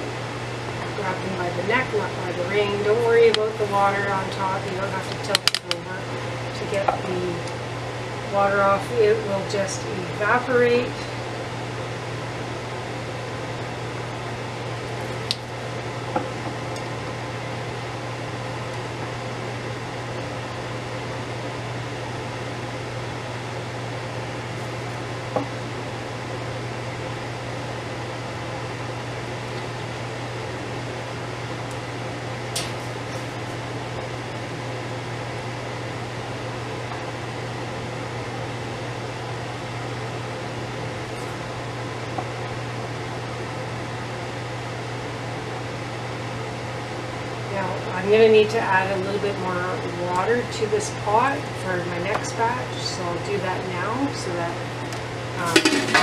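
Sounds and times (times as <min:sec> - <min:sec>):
vent fan humming: 0:00.0 - 0:56.0.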